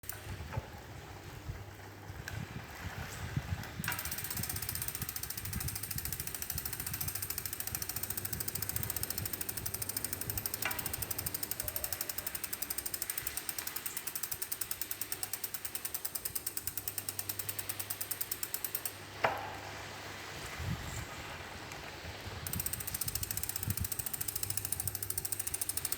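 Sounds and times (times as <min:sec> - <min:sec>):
bicycle freehub ticking: 0:00.0 - 0:00.9, 0:02.2 - 0:19.7, 0:22.4 - 0:25.9.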